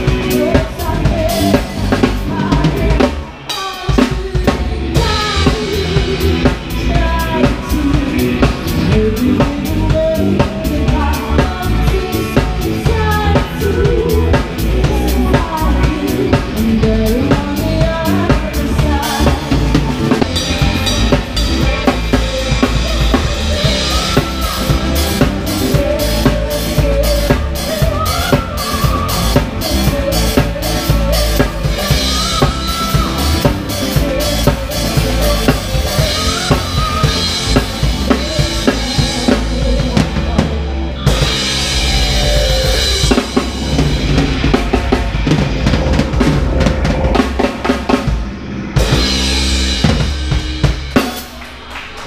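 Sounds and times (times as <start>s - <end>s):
person singing: 0.0s - 44.5s
bass guitar: 0.0s - 52.0s
live band playing: 0.0s - 52.0s.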